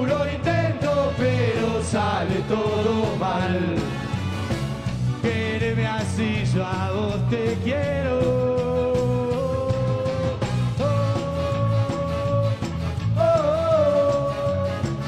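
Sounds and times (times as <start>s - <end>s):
drum and bass beat: 0.0s - 15.0s.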